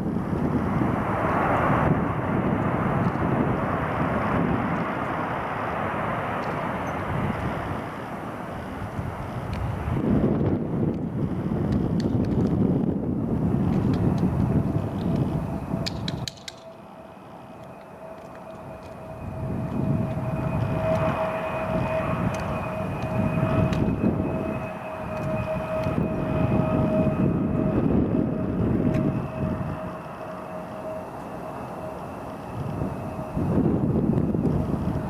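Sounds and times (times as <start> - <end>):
wind on microphone: 0.0 - 16.6, 18.0 - 31.1, 31.8 - 35.0
jet engines whining: 0.0 - 35.0.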